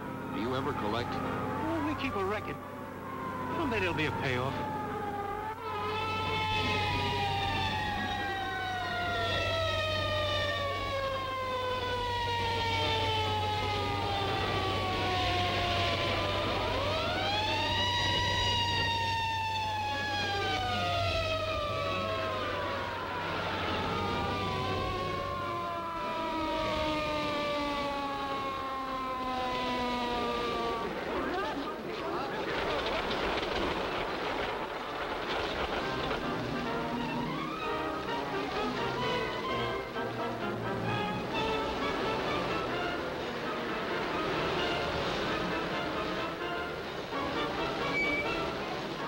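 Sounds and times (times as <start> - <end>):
fire engine siren wailing: 0.0 - 49.0
truck rumble: 0.0 - 49.0.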